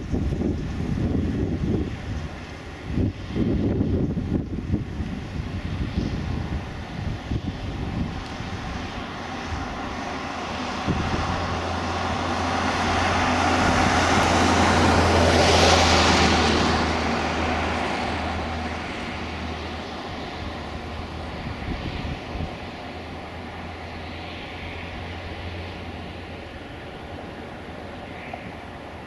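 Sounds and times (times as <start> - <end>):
turboprop plane flying past: 0.0 - 29.0.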